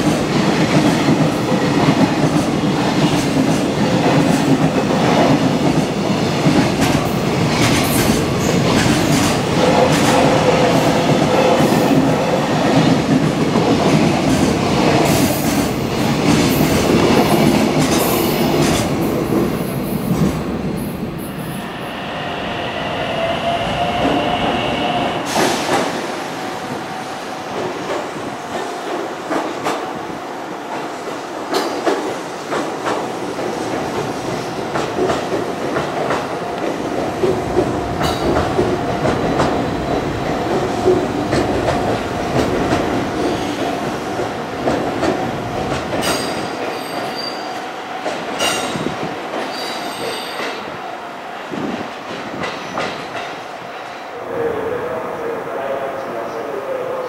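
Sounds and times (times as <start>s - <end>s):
train wheels rumbling on rails: 0.0s - 55.3s.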